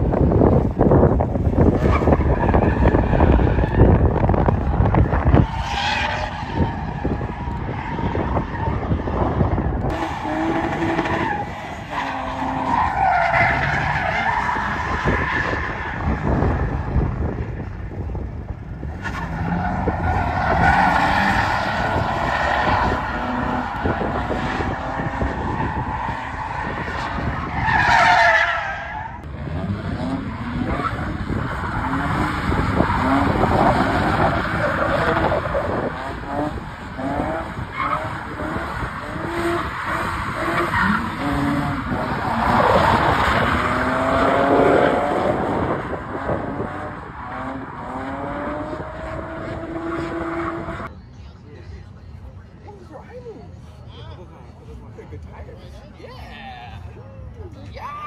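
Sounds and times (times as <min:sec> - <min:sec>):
car engine revving: 0:00.0 - 0:27.8, 0:29.1 - 0:50.9.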